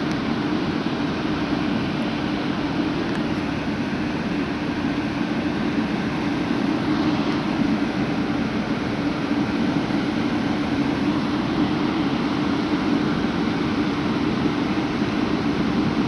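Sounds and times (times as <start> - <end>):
electric locomotive drone: 0.0 - 16.0.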